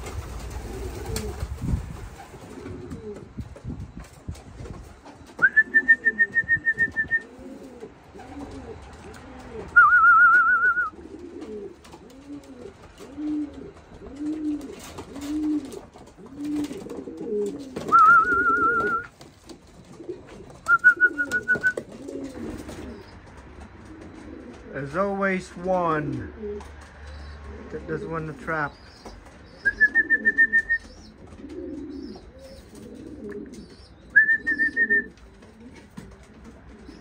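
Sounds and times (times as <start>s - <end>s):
pigeons cooing: 0.0s - 25.2s, 26.0s - 37.0s.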